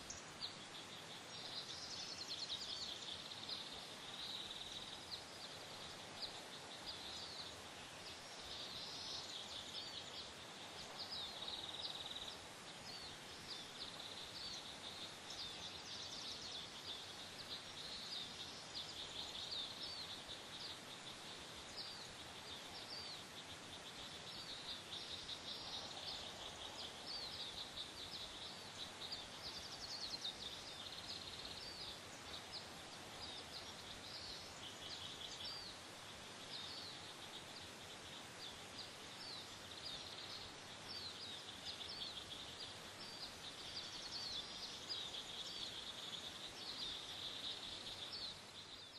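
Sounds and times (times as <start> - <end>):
steady hiss: 0.0 - 48.9.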